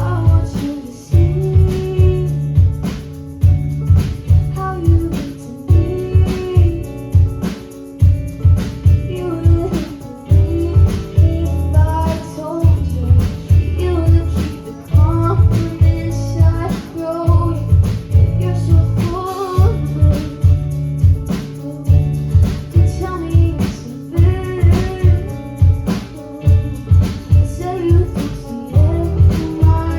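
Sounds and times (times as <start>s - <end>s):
acoustic guitar rhythm: 0.0s - 29.9s
woman singing: 0.0s - 29.9s.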